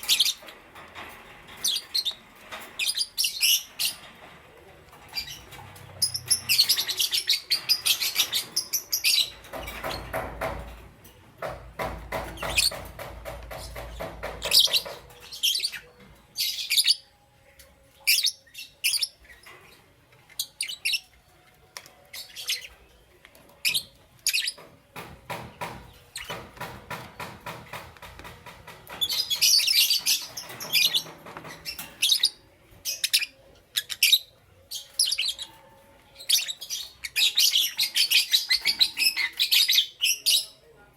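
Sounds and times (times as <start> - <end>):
birds rapid chatter: 0.0 - 17.1, 22.1 - 40.6.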